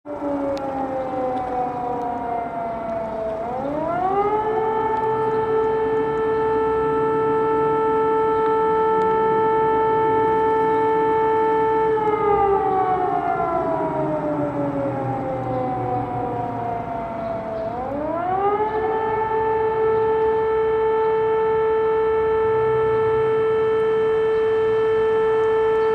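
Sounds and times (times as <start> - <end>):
siren wailing: 0.1 - 25.9.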